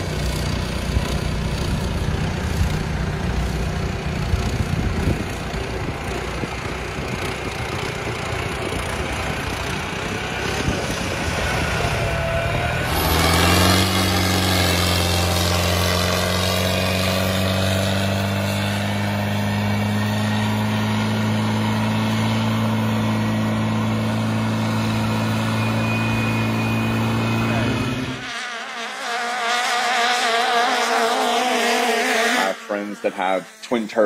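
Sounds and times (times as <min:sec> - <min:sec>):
tractor engine droning: 0:00.0 - 0:28.9
boat engine whining: 0:00.0 - 0:34.0.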